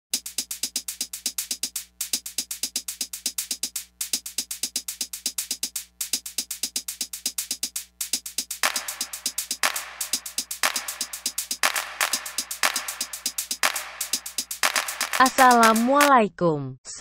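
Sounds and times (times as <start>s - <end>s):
electronic music: 0.2s - 16.2s.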